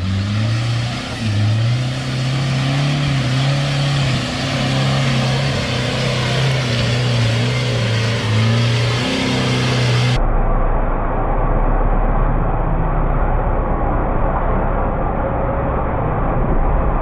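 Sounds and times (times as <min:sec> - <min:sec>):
vehicle engine running hard: 0:00.0 - 0:17.0.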